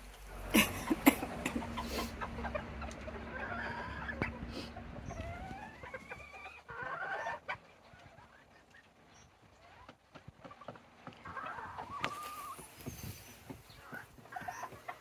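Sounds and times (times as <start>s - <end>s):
chickens clucking: 0.0s - 15.0s
drawn-out rising chicken calls: 0.0s - 15.0s.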